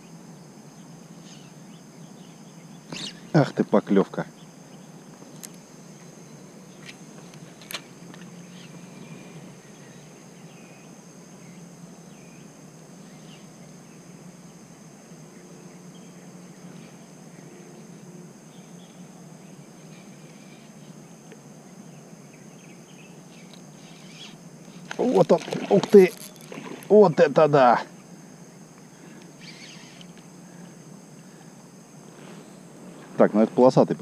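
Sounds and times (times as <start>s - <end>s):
high-pitched insect drone: 0.0s - 34.0s
low steady hum: 0.0s - 34.0s.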